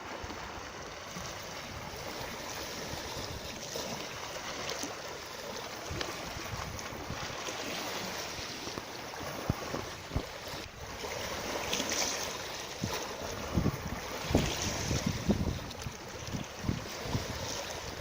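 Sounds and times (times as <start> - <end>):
wind noise on microphone: 0.0 - 4.0, 5.7 - 18.0
rushing water: 0.0 - 18.0.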